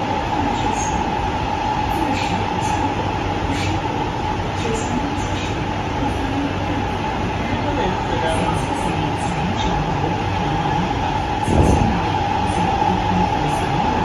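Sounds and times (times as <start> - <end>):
constant high hum: 0.0 - 14.0
metro wheels rumbling: 0.0 - 14.0.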